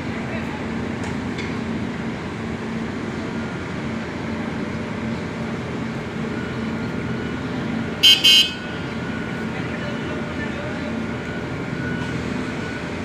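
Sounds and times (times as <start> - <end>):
heavy diesel engine drone: 0.0 - 13.0.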